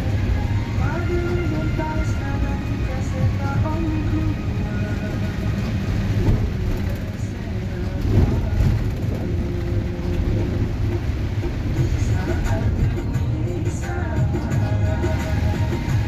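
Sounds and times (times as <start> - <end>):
heavy rain falling: 0.0 - 16.0
low rumble of traffic: 0.0 - 16.0.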